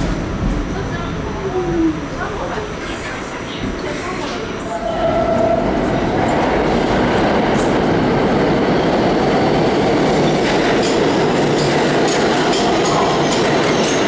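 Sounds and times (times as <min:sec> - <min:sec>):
subway train wheels on rails: 0:00.0 - 0:14.0.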